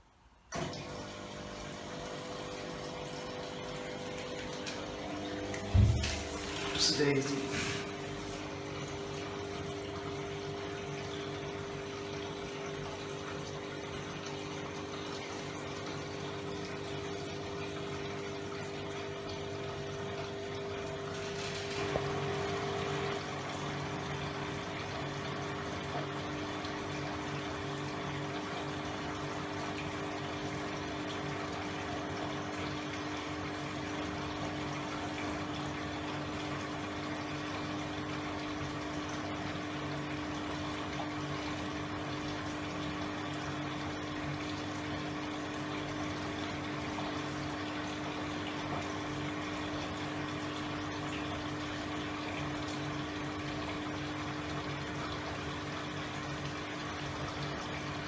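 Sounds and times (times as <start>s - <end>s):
washing machine hum: 0.0s - 58.0s
water rushing into washing machine: 0.5s - 58.0s.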